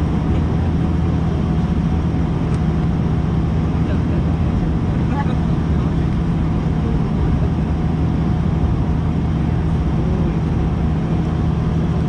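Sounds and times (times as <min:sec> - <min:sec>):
propeller drone in cabin: 0:00.0 - 0:12.0.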